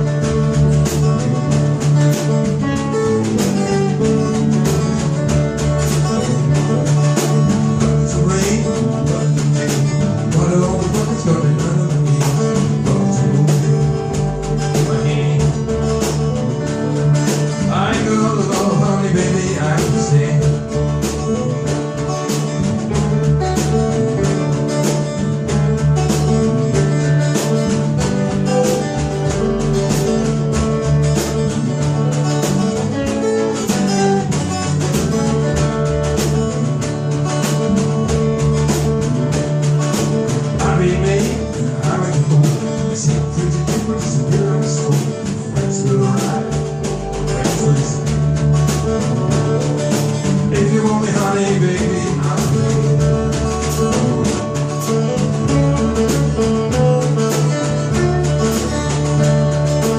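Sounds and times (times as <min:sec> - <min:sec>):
bending lead guitar line: 0:00.0 - 0:59.9
blues rock band playing: 0:00.0 - 0:59.9.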